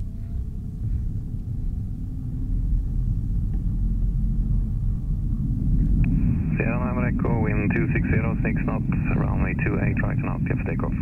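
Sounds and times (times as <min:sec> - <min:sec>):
low rumble inside airplane cabin: 0:00.0 - 0:11.0.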